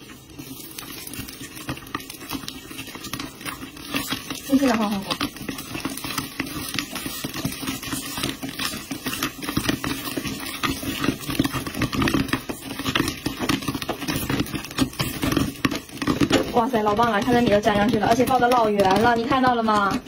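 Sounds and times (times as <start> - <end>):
kernels rattling in a pan: 0.0 - 20.0
popcorn popping: 0.0 - 20.0.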